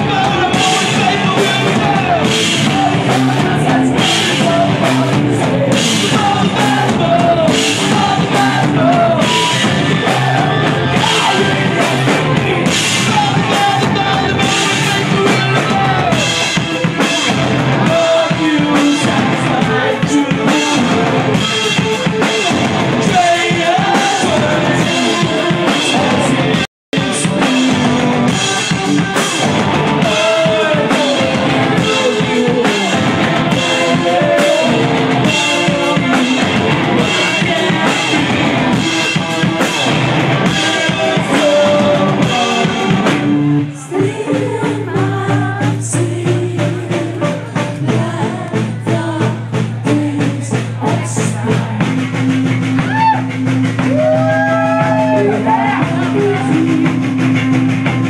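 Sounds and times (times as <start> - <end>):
electric guitars: 0.0 - 50.1
pounding drum kit: 0.0 - 58.0.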